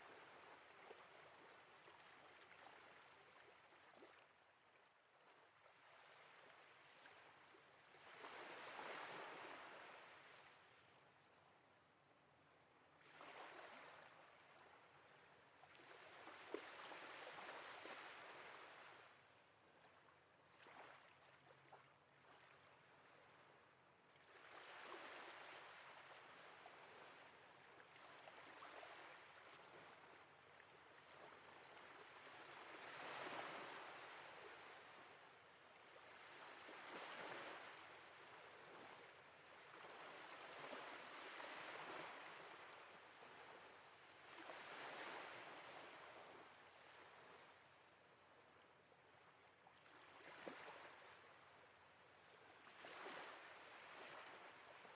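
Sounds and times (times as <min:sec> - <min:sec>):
faint sea waves washing in: 0:00.0 - 0:54.9.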